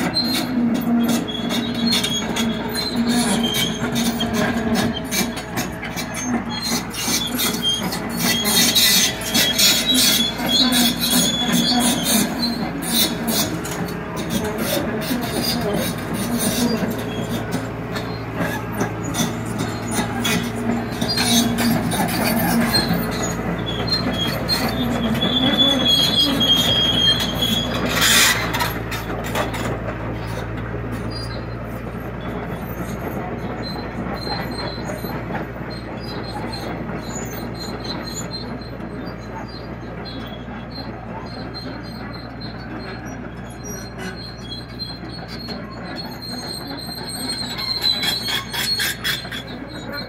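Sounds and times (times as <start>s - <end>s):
diesel engine running: 0.0s - 50.0s
tracks clanking and squealing: 0.0s - 50.0s.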